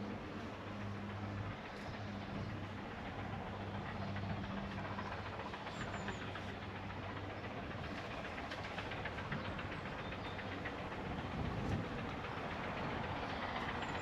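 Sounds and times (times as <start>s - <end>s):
rumble of engine and train: 0.0s - 14.0s
steam locomotive exhaust beating: 0.0s - 14.0s.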